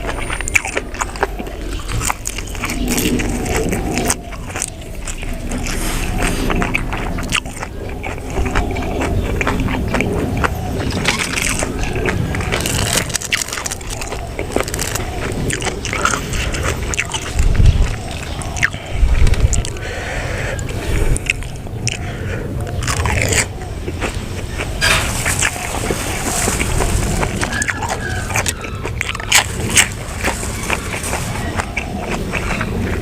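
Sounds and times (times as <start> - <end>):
loud close-up chewing: 0.0 - 33.0.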